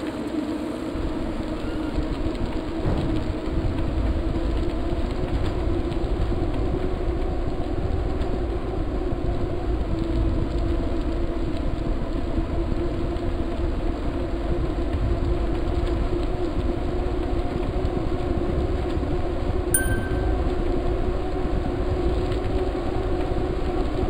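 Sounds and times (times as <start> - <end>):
road and wind noise: 0.0 - 24.0.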